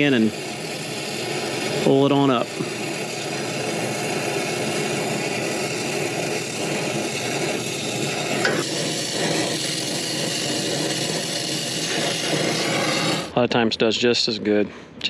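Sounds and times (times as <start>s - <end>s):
torch flame hissing: 0.0s - 13.7s.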